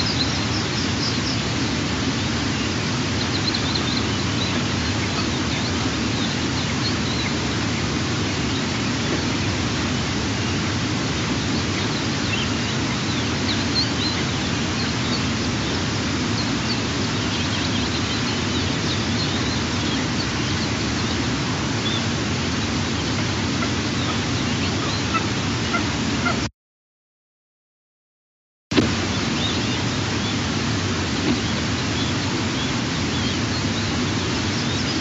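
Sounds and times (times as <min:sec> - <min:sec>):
rushing hiss of outdoor noise: 0:00.0 - 0:26.5, 0:28.7 - 0:35.0.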